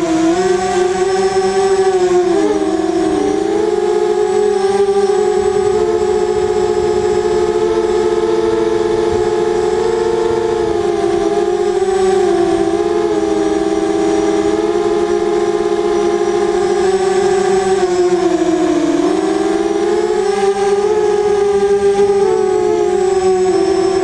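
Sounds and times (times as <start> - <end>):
quadcopter motors buzzing whine: 0.0 - 24.0.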